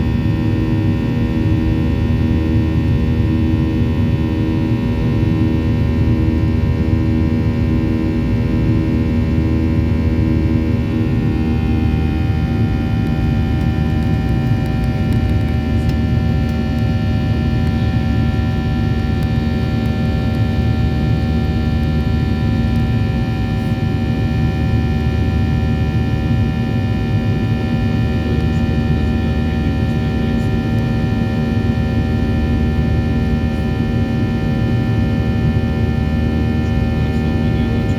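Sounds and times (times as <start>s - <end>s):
jet engines rumbling in cabin: 0.0s - 37.9s.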